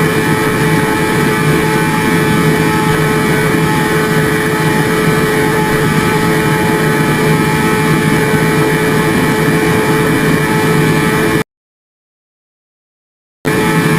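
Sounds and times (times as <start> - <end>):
engine drone: 0.0 - 11.4, 13.5 - 13.9
rushing noise: 0.0 - 11.4, 13.5 - 13.9.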